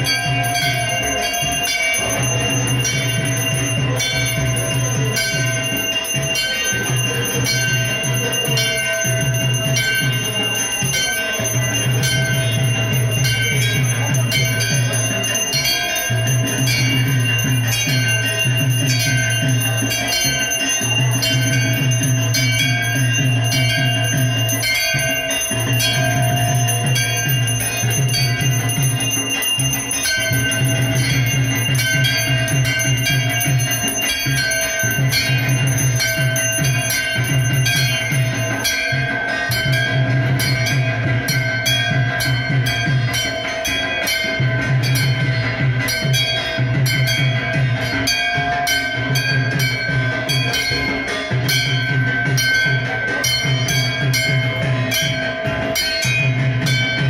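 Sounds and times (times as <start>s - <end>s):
bells ringing rapidly: 0.0s - 57.0s
low drum beat: 0.0s - 57.0s.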